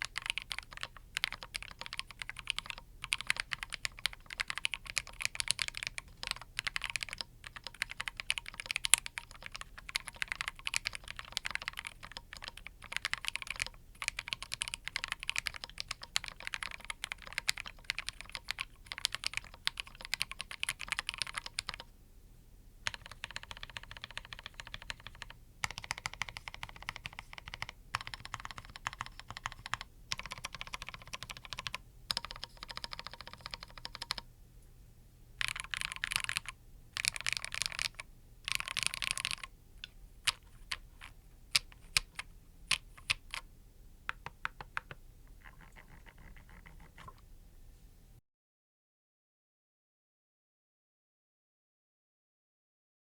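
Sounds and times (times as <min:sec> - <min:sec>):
mechanical keyboard typing: 0:00.0 - 0:21.9, 0:22.8 - 0:34.2, 0:35.4 - 0:43.4, 0:44.1 - 0:47.2.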